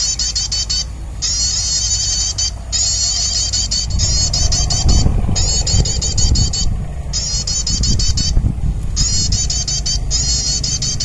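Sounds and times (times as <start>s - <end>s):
high fast bird trill: 0.0s - 11.0s
steady low rumble: 0.0s - 11.0s.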